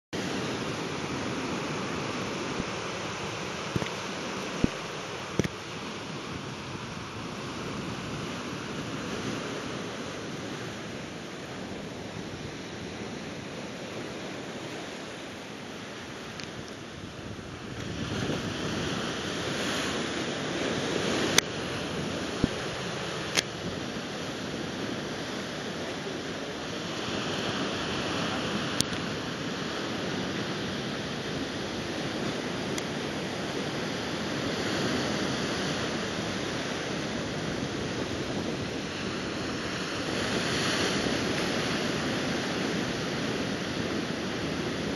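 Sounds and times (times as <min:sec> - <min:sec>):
ocean surf washing up sand: 0:00.2 - 0:44.9.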